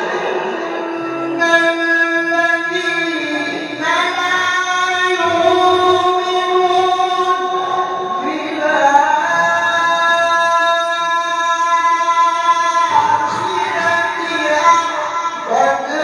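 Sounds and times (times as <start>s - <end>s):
man reciting melodically through microphone: 0.0s - 16.0s.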